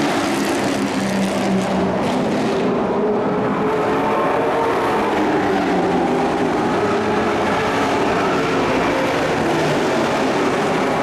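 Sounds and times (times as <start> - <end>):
racing truck engines: 0.0 - 11.0.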